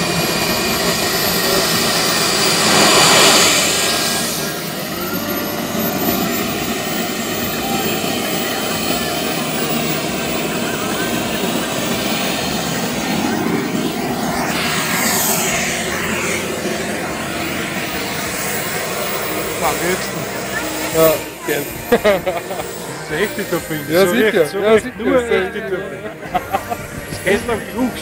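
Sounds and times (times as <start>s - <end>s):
model jet turbine roaring and whining: 0.0s - 28.0s.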